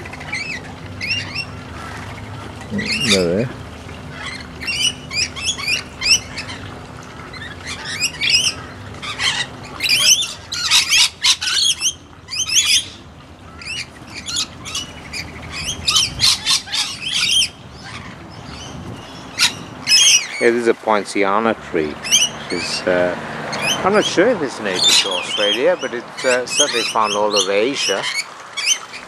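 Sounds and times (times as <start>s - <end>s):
parrots screeching: 0.0s - 20.5s, 22.0s - 22.8s, 23.5s - 29.0s.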